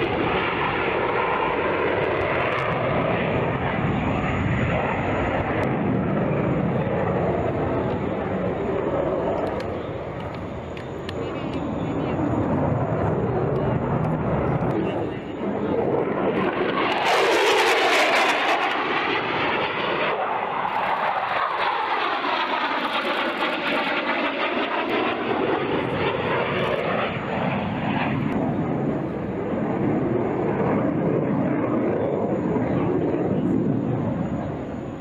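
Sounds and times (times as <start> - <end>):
jet flying past: 0.0 - 35.0.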